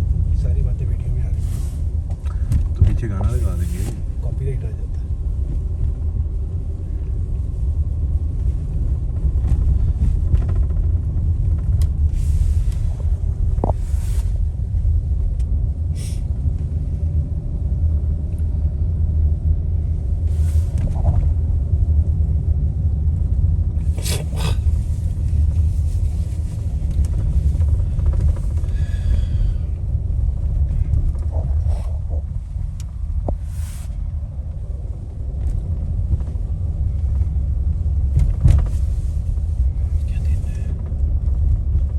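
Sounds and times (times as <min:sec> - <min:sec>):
car road rumble: 0:00.0 - 0:41.9.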